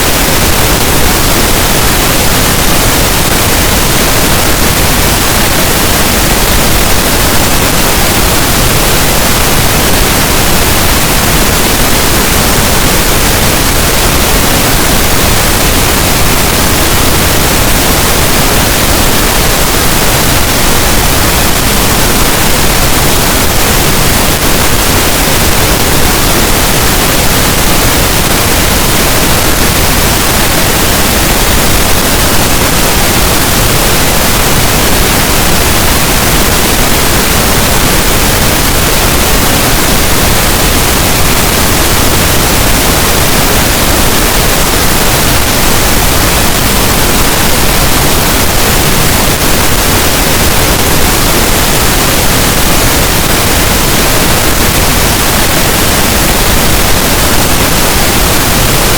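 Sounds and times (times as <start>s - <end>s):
pink noise hiss: 0.0s - 58.9s.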